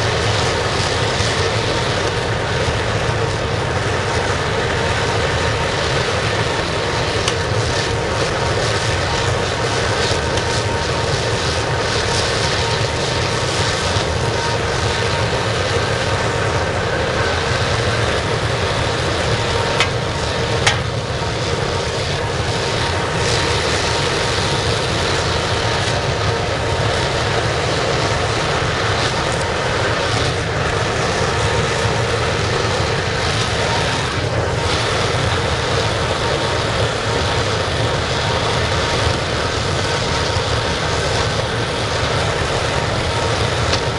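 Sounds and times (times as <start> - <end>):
oil burner blower and flame rushing: 0.0 - 43.9.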